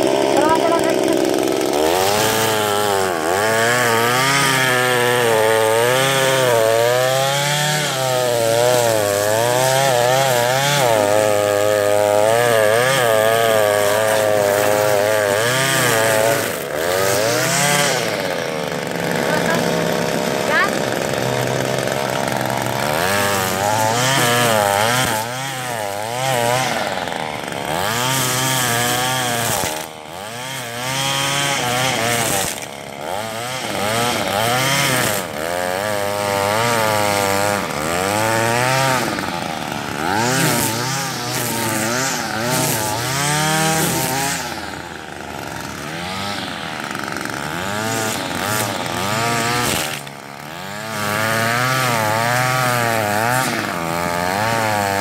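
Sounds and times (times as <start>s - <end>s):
string trimmer engine revving: 0.0s - 55.0s.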